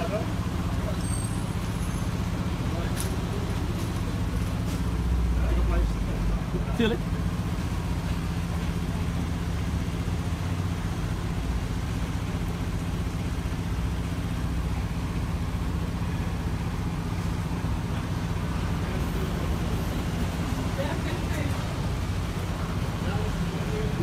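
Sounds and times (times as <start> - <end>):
crane engine humming: 0.0 - 24.0.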